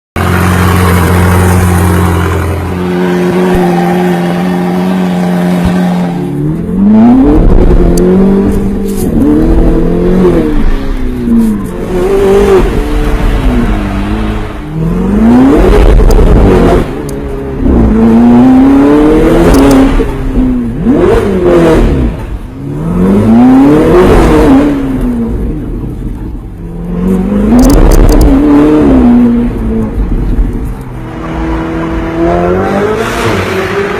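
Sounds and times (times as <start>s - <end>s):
sports car engine revving: 0.2s - 33.9s.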